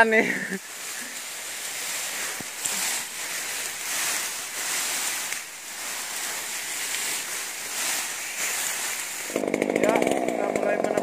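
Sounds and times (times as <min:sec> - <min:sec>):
rustling through undergrowth: 0:00.0 - 0:11.0.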